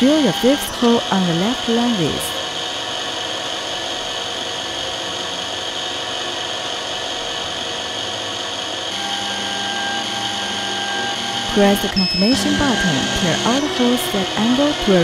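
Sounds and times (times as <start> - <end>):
low steady hum: 0.0 - 15.0
small electric drill motor: 0.0 - 15.0.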